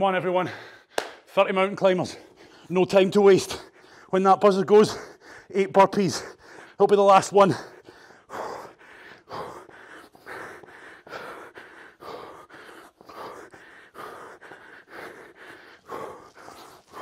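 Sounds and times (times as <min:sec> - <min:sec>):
man breathing hard: 0:00.3 - 0:01.3, 0:02.0 - 0:17.0.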